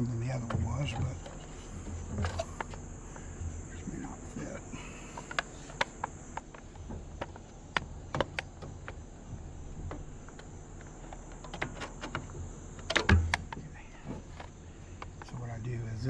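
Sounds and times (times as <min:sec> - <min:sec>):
light clicks and taps: 0:00.3 - 0:09.1, 0:09.8 - 0:15.8.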